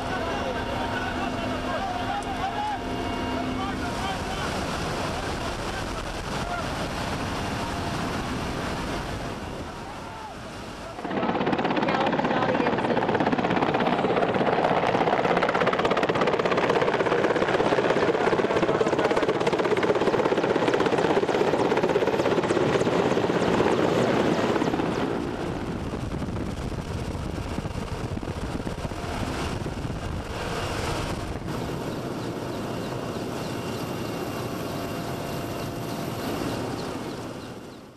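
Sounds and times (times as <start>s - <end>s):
helicopter rotor and engine noise: 0.0s - 37.9s.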